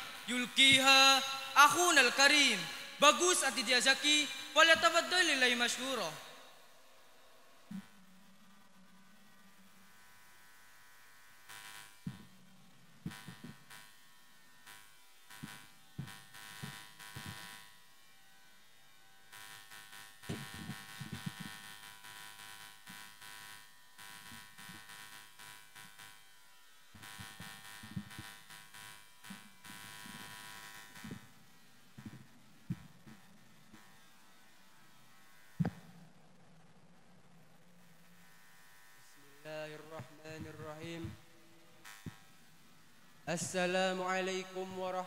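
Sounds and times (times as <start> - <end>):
sound system electrical buzz: 0.0 - 45.0.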